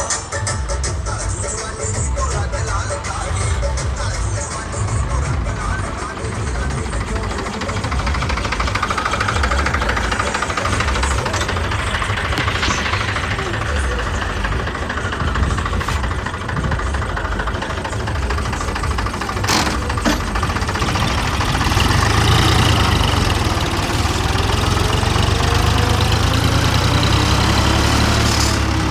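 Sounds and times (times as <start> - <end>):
harvesting machinery engine droning: 0.0 - 28.9.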